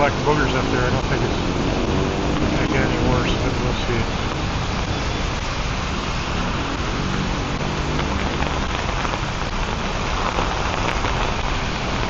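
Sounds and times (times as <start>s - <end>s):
rain pattering on umbrella: 0.0s - 12.0s.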